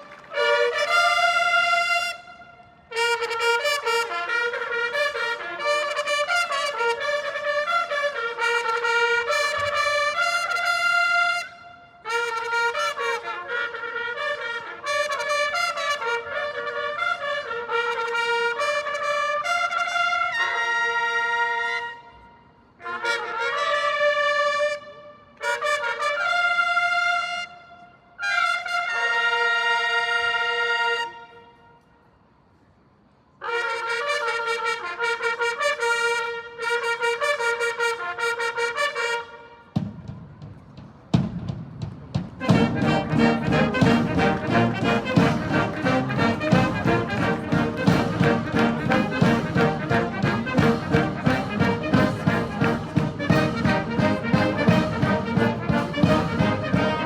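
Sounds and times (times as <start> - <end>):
bugles playing a flourish: 0.0 - 22.1, 22.8 - 31.6, 33.4 - 39.7, 42.4 - 57.0.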